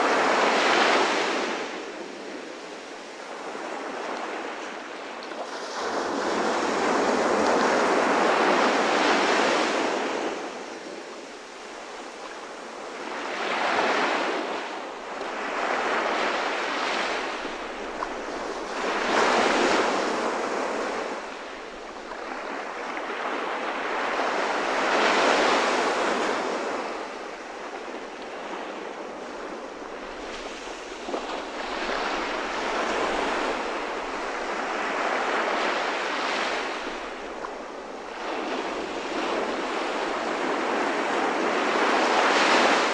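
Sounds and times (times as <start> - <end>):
ocean waves washing in: 3.2 - 42.9.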